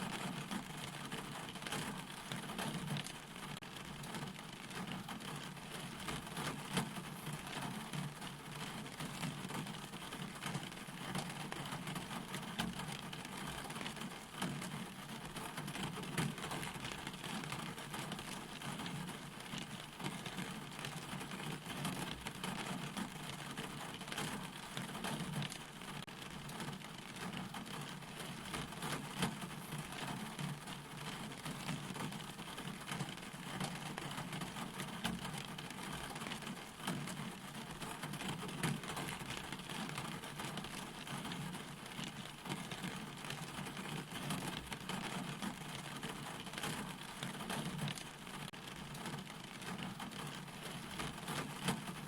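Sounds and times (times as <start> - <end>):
rain pattering on a surface: 0.0 - 52.0.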